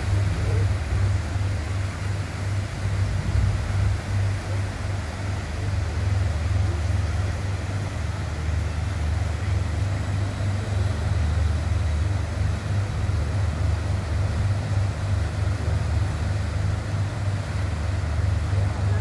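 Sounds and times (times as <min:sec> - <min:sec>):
ship engines rumbling: 0:00.0 - 0:19.0.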